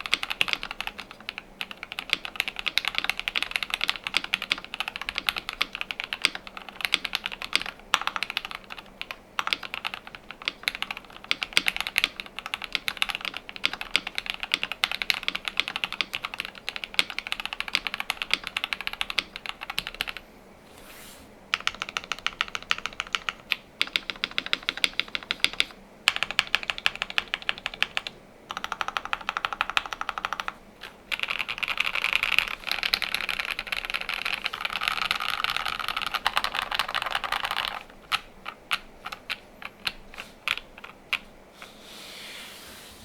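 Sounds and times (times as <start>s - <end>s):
typing on mechanical keyboard: 0.0s - 20.2s, 21.6s - 41.3s.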